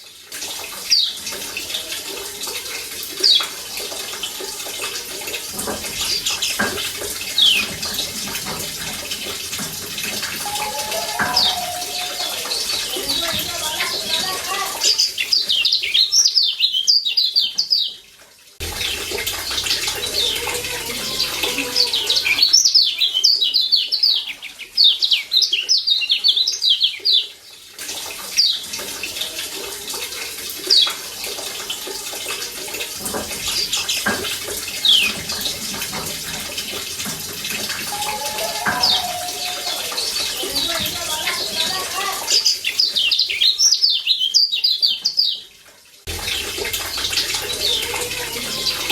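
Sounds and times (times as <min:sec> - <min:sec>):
running splashing water: 0:00.0 - 0:48.9.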